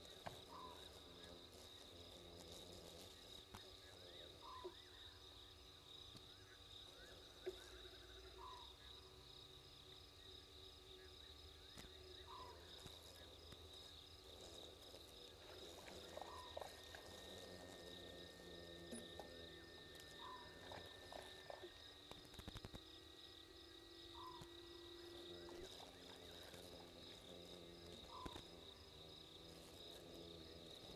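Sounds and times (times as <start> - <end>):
insect chorus trilling: 0.0 - 30.9.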